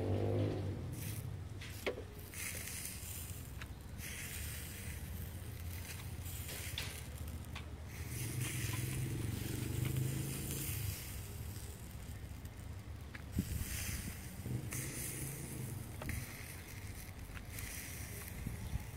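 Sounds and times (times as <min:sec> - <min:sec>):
steady low rumble: 0:00.0 - 0:18.9
flatbread rustling: 0:01.0 - 0:18.9.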